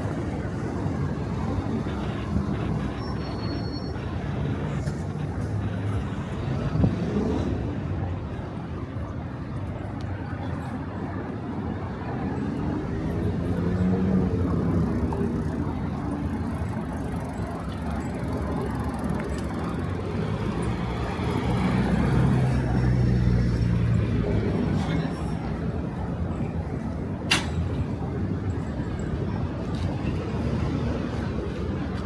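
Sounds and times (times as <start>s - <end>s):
traffic road noise: 0.0s - 32.0s.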